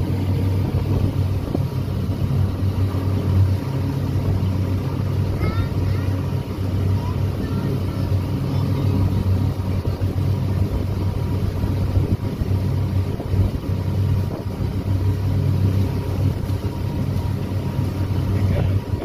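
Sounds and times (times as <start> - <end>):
boat engine droning: 0.0 - 19.0
water rushing past hull: 0.0 - 19.0.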